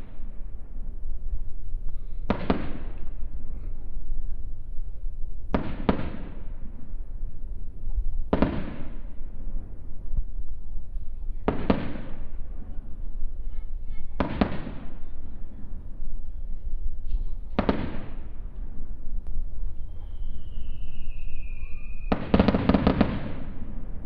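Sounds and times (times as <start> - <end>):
firework shells booming: 0.0 - 3.9, 5.4 - 7.4, 8.2 - 24.0.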